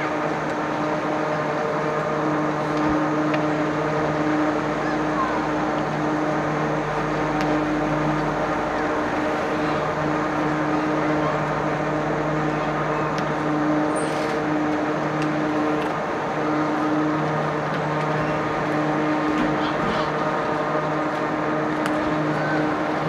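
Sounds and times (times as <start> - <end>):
funicular car mechanical hum: 0.0 - 23.0.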